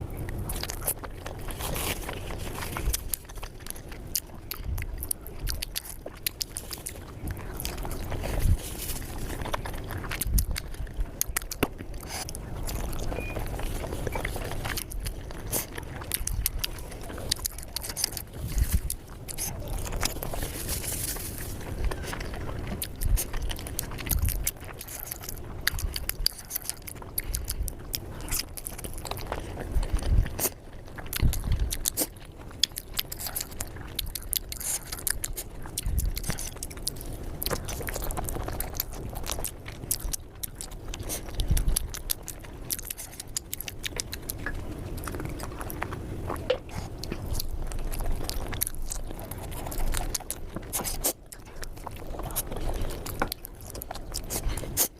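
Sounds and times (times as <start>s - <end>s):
chewing and biting food: 0.0s - 54.9s
wet mouth sounds: 0.0s - 54.9s.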